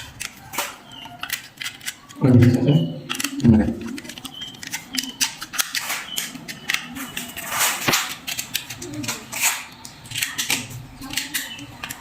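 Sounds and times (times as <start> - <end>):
hand tools clicking and snapping: 0.0 - 12.0.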